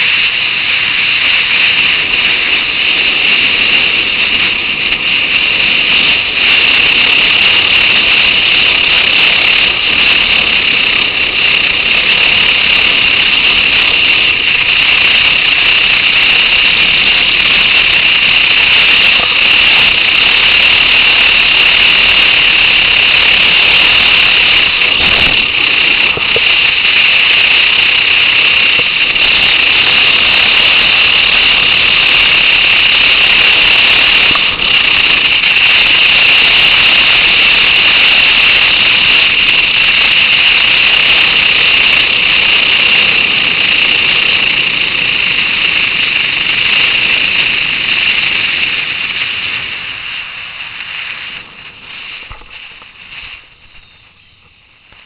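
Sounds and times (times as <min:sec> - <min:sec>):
wind rushing: 0:00.0 - 0:54.5
harsh microphone hiss: 0:00.0 - 0:55.0
motorcycle engine: 0:00.0 - 0:55.0.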